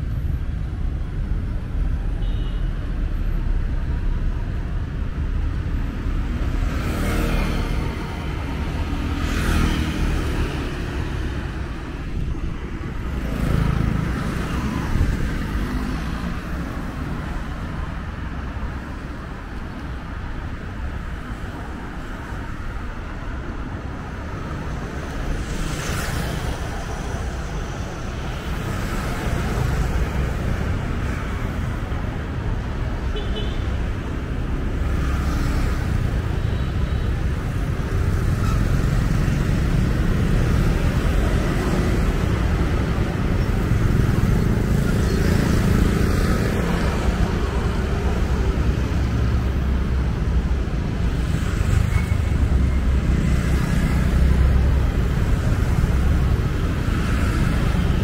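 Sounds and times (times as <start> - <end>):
traffic rumble: 0.0 - 58.0
vehicles passing: 0.0 - 58.0.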